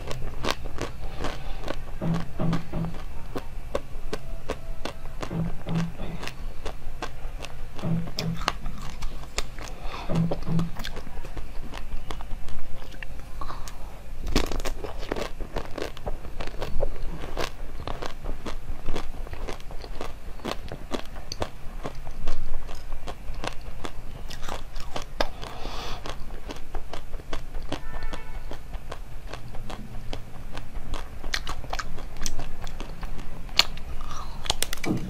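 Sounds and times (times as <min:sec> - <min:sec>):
crunchy chewing: 0:00.0 - 0:35.0.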